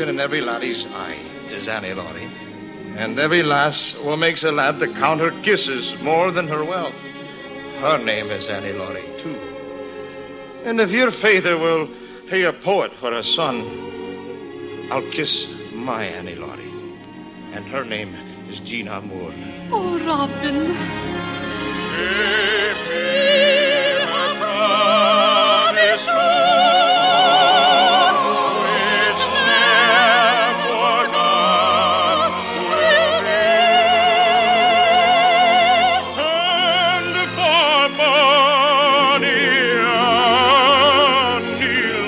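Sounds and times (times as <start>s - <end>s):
operatic singing with vibrato: 0.0s - 42.0s
orchestral accompaniment: 0.0s - 42.0s.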